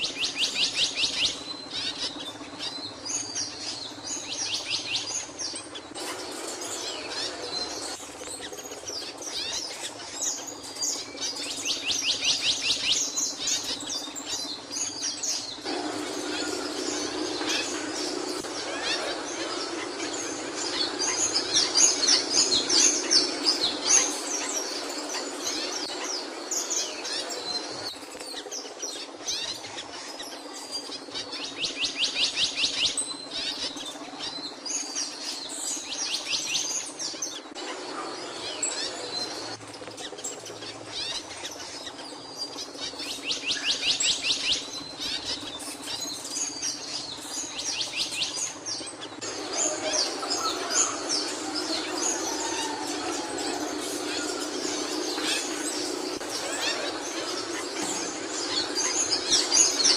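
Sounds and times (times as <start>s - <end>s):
songbird chirping and trilling: 0.0s - 59.9s
steady low hum: 0.0s - 59.9s.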